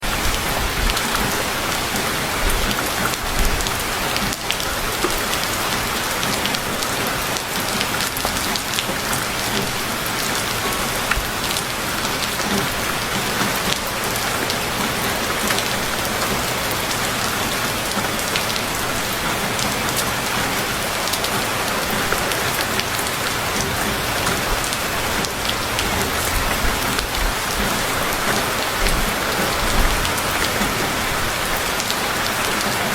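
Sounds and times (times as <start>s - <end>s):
heavy rain hissing: 0.0s - 32.9s
raindrops ticking on surfaces: 0.0s - 32.9s.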